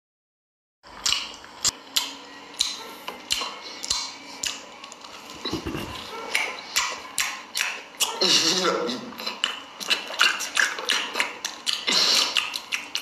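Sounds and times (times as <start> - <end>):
person chewing with mouth smacks: 1.0 - 13.0.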